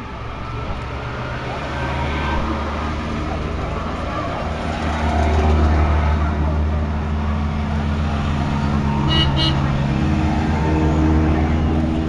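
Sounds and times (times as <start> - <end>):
crowd voices: 0.0 - 12.0
small car engines humming: 0.0 - 12.0.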